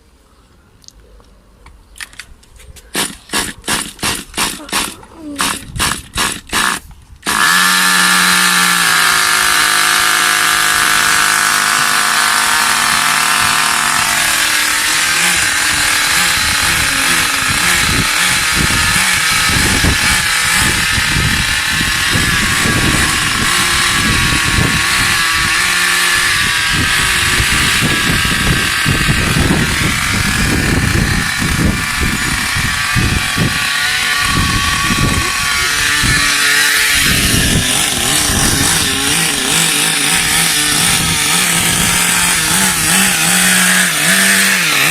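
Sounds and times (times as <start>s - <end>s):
pull starter: 2.9s - 44.9s.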